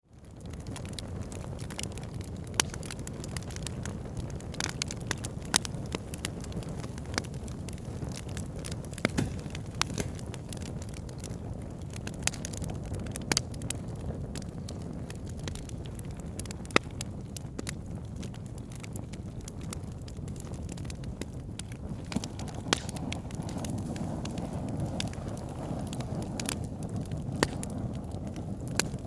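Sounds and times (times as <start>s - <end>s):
burning wood crackling and popping: 0.1s - 29.0s
low rumble of flames: 0.1s - 29.0s.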